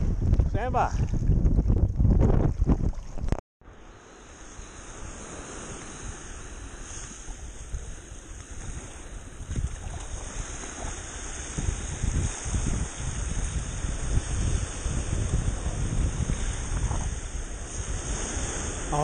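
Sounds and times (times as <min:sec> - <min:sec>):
wind buffeting microphone: 0:00.0 - 0:03.4, 0:05.0 - 0:19.0
small waves washing onto sand: 0:03.7 - 0:19.0.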